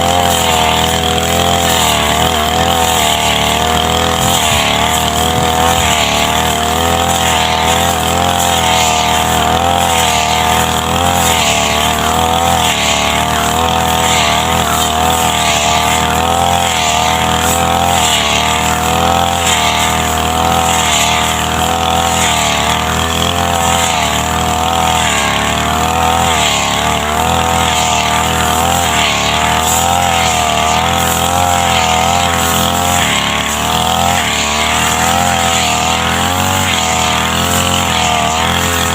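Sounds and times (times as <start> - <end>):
grass cutter engine running: 0.0 - 38.9.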